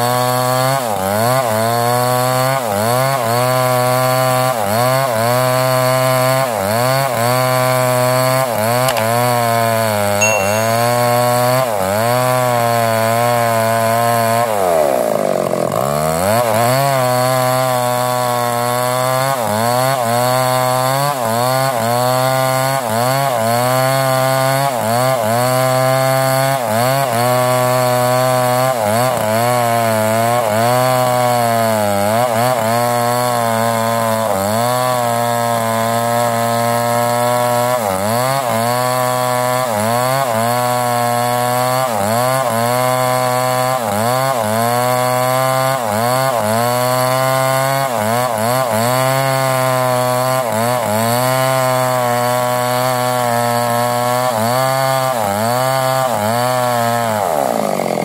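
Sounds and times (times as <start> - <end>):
chainsaw cutting log at high revs: 0.0 - 58.0.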